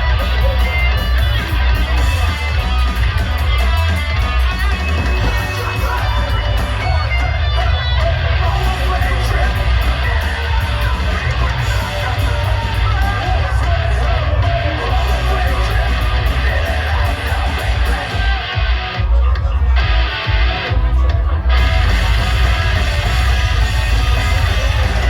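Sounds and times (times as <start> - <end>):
heavy rock band playing live: 0.0 - 25.0
shouted vocals: 0.0 - 25.0.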